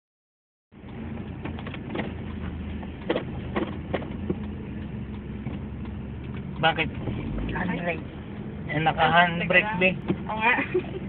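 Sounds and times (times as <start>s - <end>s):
car engine idling: 0.7s - 11.0s.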